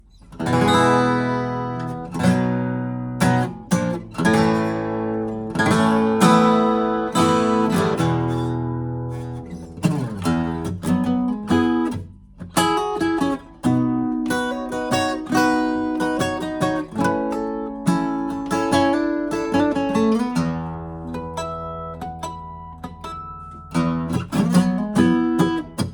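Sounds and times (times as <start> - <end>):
acoustic guitar chords: 0.0 - 25.9.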